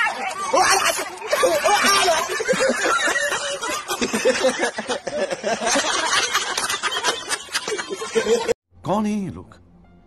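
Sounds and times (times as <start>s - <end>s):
people laughing: 0.0s - 8.6s.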